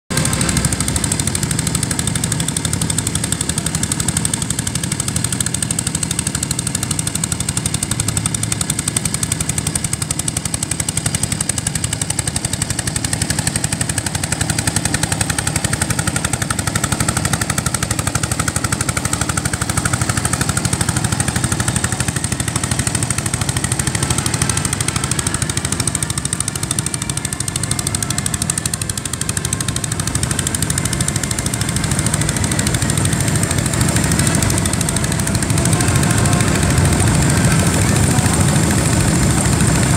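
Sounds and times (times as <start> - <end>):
tractor engine running under load: 0.1 - 39.9.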